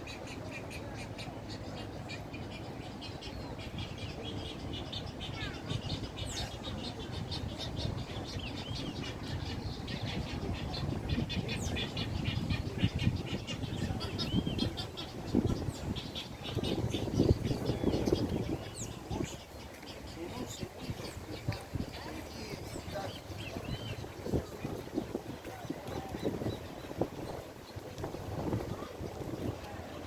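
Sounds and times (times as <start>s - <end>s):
low bird calls: 0.0s - 29.7s
birds chirping: 0.0s - 30.0s.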